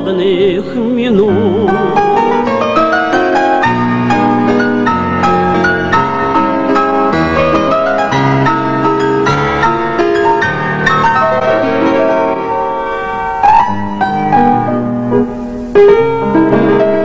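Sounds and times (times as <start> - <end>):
grand piano playing: 0.0 - 17.0
loud accented piano chords: 0.0 - 17.0.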